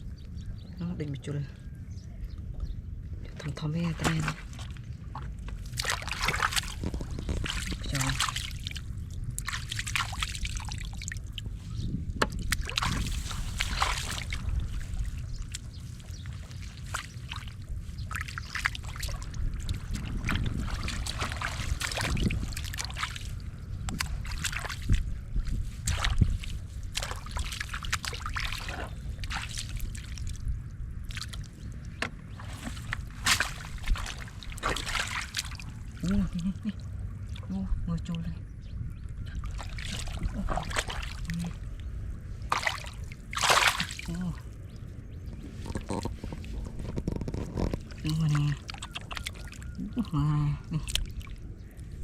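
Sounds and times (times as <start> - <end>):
muddy water sloshing and splashing: 3.3 - 38.3, 38.9 - 52.0.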